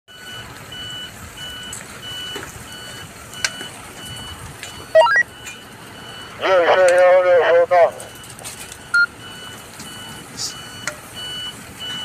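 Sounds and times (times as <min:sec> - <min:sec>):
vehicle reversing alarm beeping: 0:00.1 - 0:12.0.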